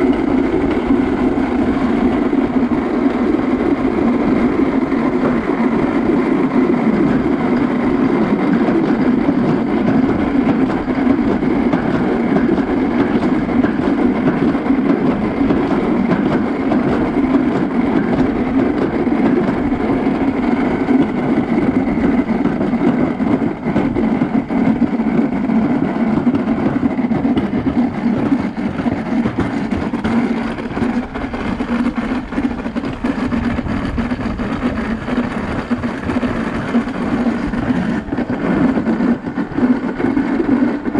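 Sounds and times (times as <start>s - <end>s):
sled rolling in metal trough: 0.0s - 40.9s.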